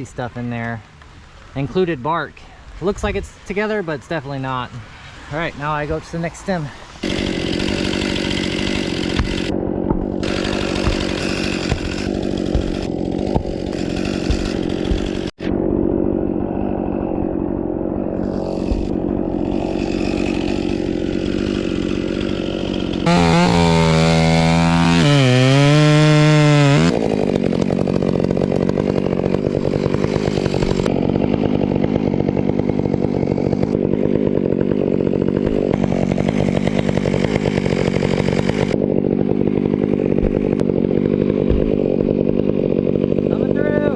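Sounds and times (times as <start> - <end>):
chainsaw cutting wood: 5.7 - 43.9.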